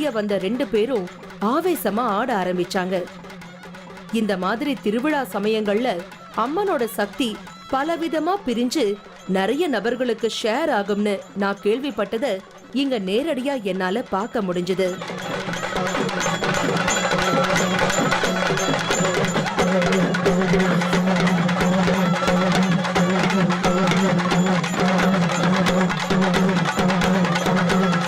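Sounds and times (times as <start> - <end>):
fast drumming with metallic ringing: 0.0 - 28.0.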